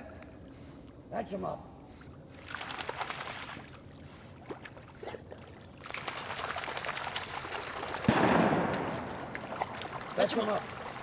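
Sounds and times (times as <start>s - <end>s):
water splashing and sloshing: 2.0s - 11.0s.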